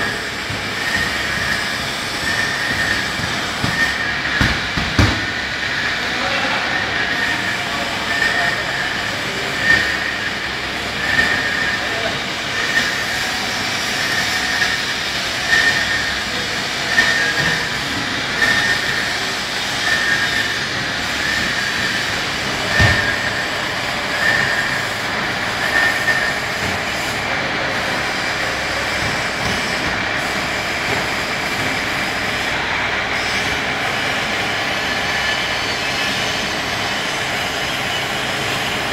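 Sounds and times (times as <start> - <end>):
loud machinery noise: 0.0 - 38.9.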